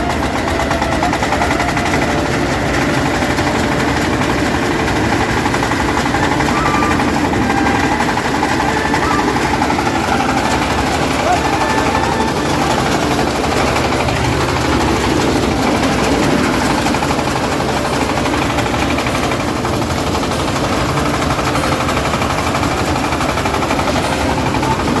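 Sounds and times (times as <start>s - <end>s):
heavy farm machine engine chugging: 0.0s - 25.0s.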